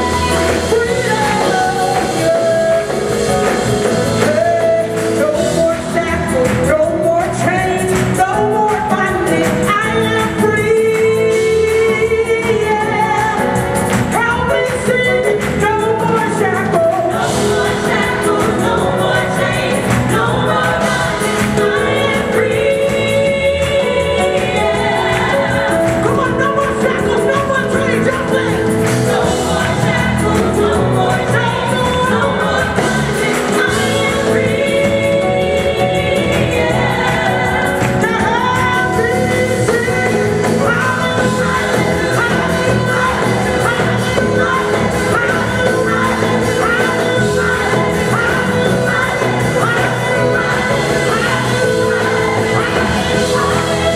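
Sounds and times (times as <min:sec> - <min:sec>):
bass guitar: 0:00.0 - 0:53.9
drums: 0:00.0 - 0:53.9
keyboards: 0:00.0 - 0:53.9
singers singing together: 0:00.0 - 0:53.9.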